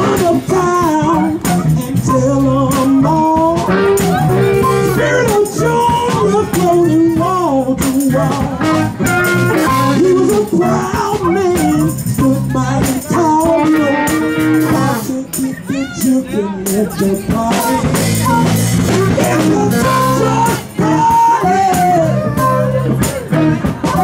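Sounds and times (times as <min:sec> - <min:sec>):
blues accompaniment with steady beat: 0:00.0 - 0:24.0.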